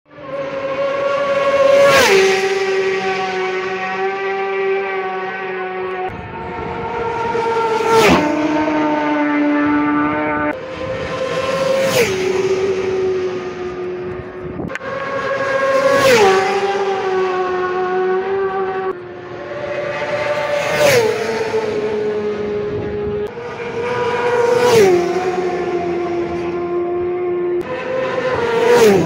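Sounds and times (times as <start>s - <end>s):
racing motorcycles passing: 0.1s - 29.0s.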